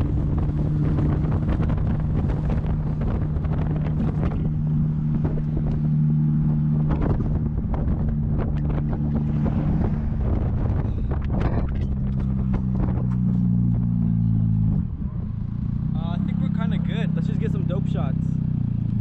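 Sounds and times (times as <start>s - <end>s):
wind buffeting microphone: 0.0s - 17.0s
engine humming: 0.0s - 19.0s.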